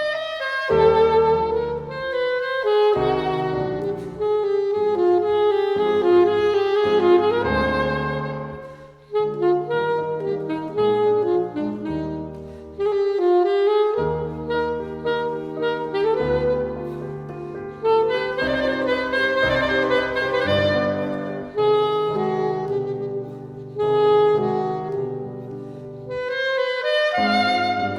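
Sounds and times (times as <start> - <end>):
piano accompaniment: 0.0 - 27.9
saxophone melody: 0.0 - 27.9.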